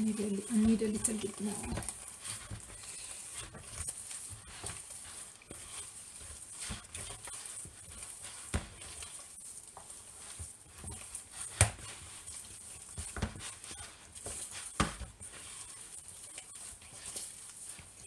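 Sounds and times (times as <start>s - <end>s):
meat mixture squelching: 0.0s - 18.0s.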